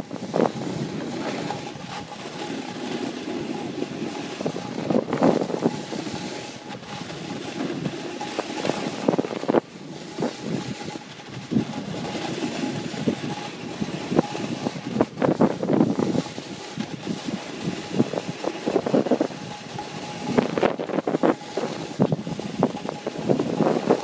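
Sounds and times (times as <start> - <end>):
skis carving packed snow: 0.0 - 24.0
wind buffeting microphone: 0.0 - 24.0.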